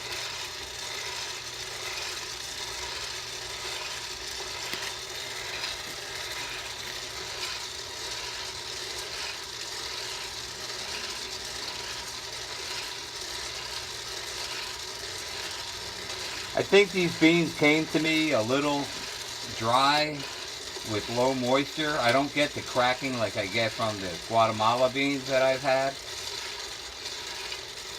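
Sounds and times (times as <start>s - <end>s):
beans rattling: 0.0s - 27.9s
coffee roaster motor whir: 0.0s - 27.9s.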